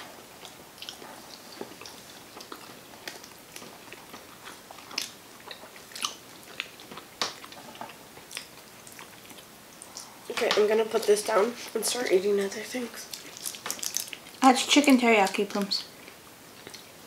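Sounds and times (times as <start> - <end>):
people chewing sushi: 0.0 - 14.5, 15.9 - 17.0.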